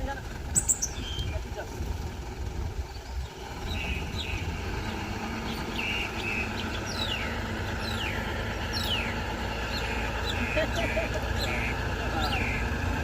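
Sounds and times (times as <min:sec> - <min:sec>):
diesel engine low rumble: 0:00.0 - 0:13.0.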